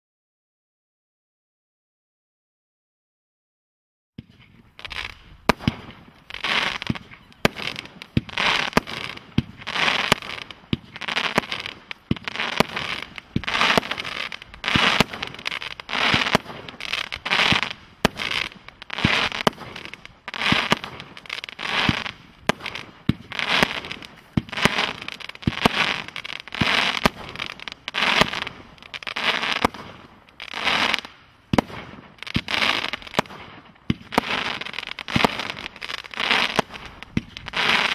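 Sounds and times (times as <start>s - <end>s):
firework crackling bursts: 4.2s - 37.9s.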